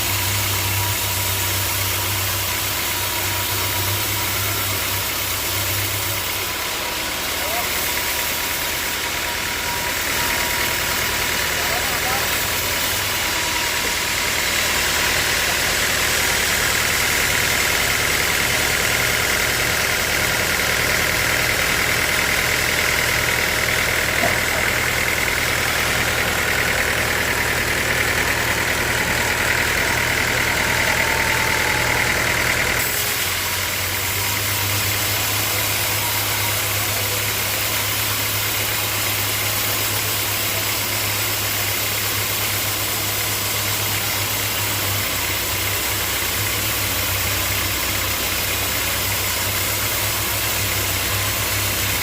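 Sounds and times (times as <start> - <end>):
high saw whine: 0.0 - 52.0
sawmill engine running: 0.0 - 52.0.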